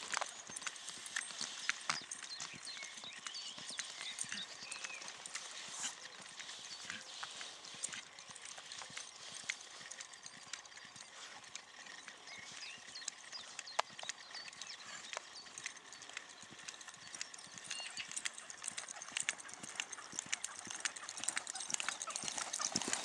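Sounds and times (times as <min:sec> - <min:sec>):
horse hooves cantering on sand: 0:00.0 - 0:23.0.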